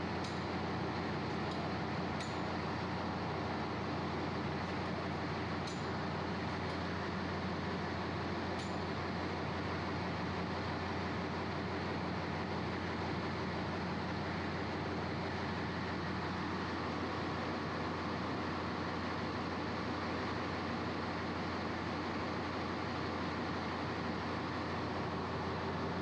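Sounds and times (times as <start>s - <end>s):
engine room machinery drone: 0.0s - 26.0s.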